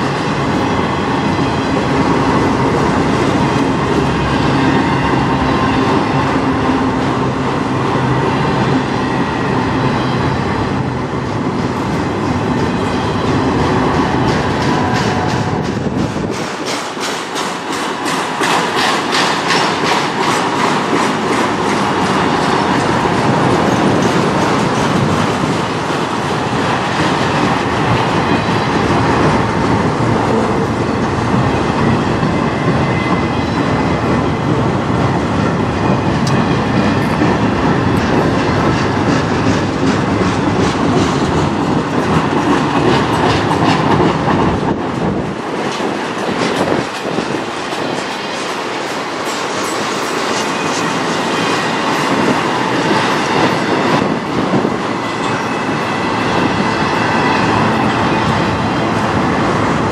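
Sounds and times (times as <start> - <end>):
train wheels rumbling on rail: 0.0 - 59.9
wheels clacking over rail joints: 11.1 - 59.9.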